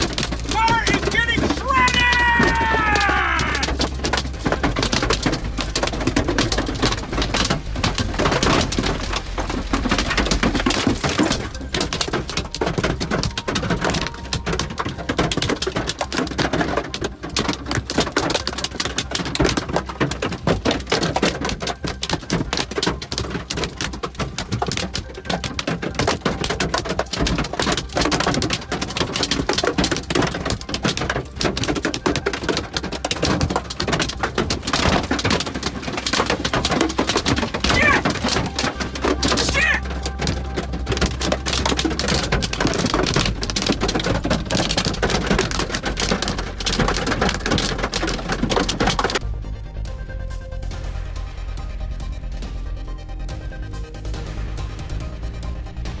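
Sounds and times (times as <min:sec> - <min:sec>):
hailstones clattering: 0:00.0 - 0:49.2.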